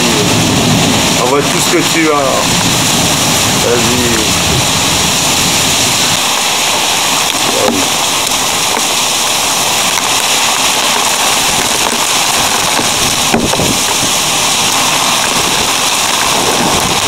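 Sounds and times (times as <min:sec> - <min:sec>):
heavy hail pattering: 0:00.0 - 0:17.0.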